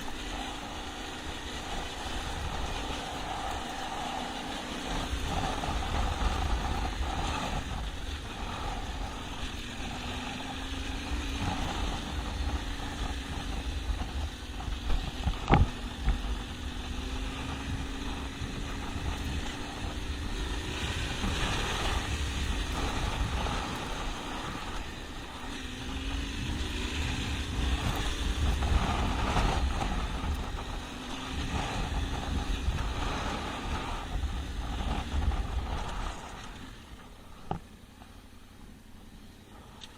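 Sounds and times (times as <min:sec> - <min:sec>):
motorcycle engine revving: 0:00.0 - 0:39.9
wind rumble: 0:00.0 - 0:39.9.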